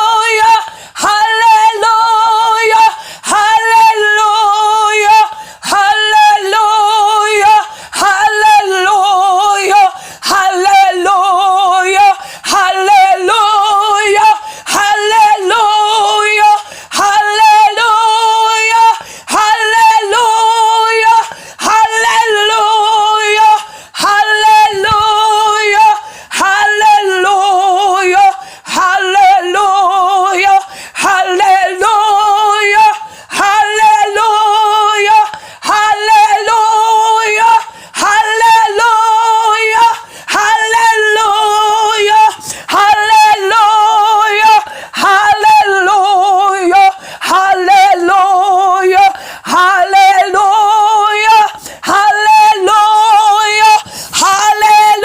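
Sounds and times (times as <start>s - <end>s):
person singing unaccompanied: 0.0s - 55.0s.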